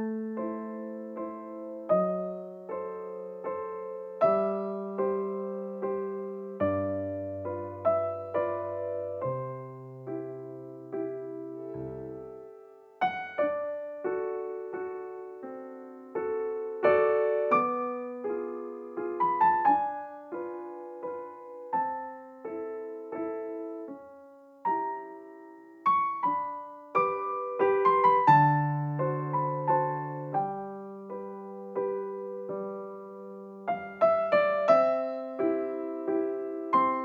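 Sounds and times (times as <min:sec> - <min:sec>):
gentle piano melody: 0:00.0 - 0:37.0.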